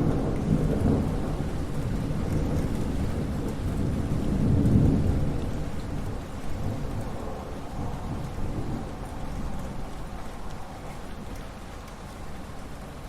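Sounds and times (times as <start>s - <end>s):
deep roll of thunder: 0.0s - 10.6s
steady rain: 0.0s - 13.0s.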